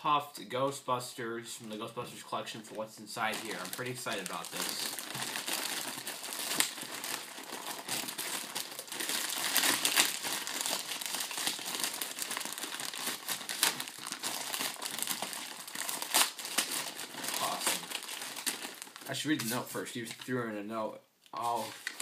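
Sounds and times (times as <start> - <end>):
plastic bag crinkling and tearing: 2.6 - 20.3, 21.4 - 22.0.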